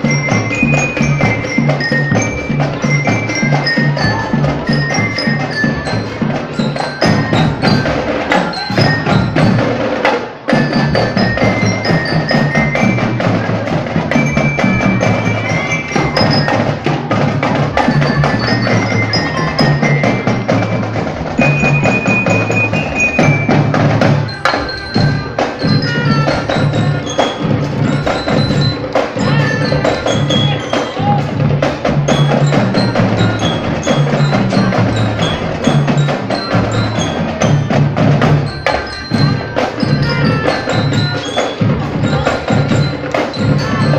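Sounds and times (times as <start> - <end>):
bell lyra melody: 0.0 - 9.9, 10.5 - 43.9
marching drums: 0.0 - 43.9.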